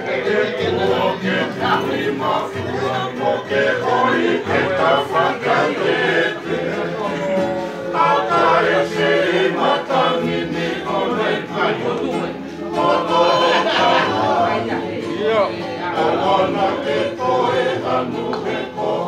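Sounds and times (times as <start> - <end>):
acoustic guitar: 0.0 - 19.0
men singing in harmony: 0.0 - 19.0
strummed ukulele: 0.0 - 19.0.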